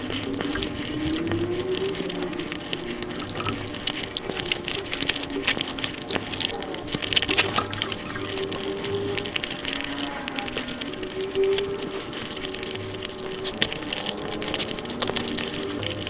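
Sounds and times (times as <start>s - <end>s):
sped-up wet chewing and smacking: 0.0s - 16.0s.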